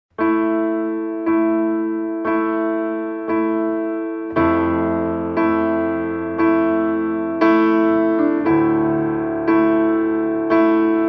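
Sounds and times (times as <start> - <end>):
keyboard playing chords: 0.2 - 11.0.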